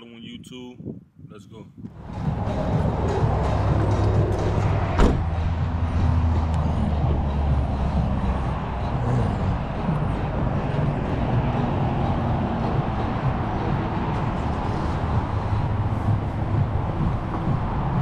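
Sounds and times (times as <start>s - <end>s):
vehicle engine running: 1.9s - 18.0s.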